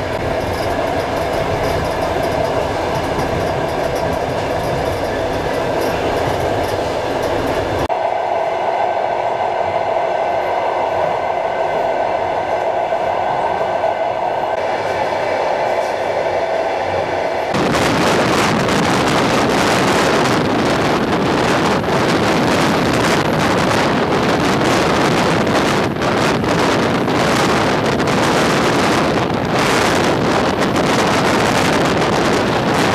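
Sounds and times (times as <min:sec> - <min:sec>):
passenger train in motion: 0:00.0 - 0:32.9.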